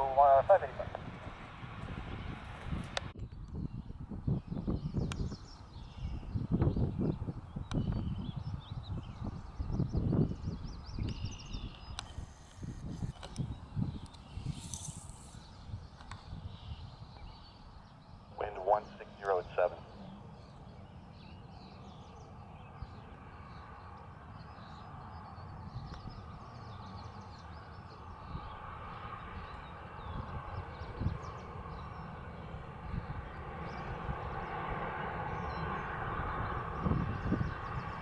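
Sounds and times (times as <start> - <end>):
jet airliner engine noise: 0.0 - 38.0
wind rumble on microphone: 0.0 - 38.0.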